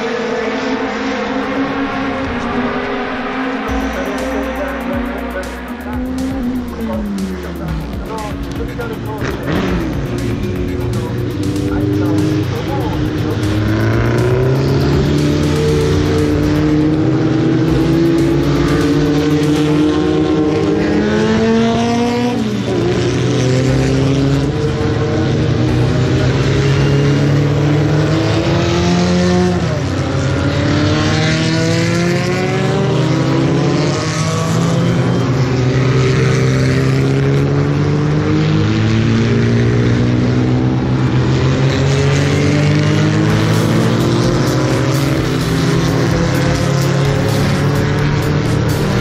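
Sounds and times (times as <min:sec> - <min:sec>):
racing car engines at full throttle: 0:00.0 - 0:49.0.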